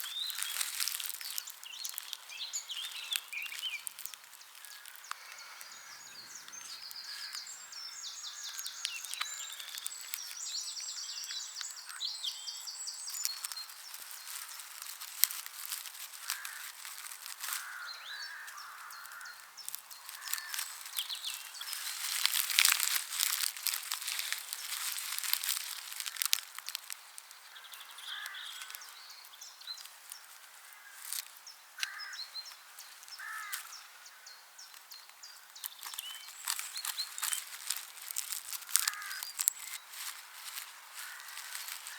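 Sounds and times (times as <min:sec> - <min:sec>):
birds singing and calling: 0:00.0 - 0:41.9
dry straw crackling and rustling: 0:00.0 - 0:41.9.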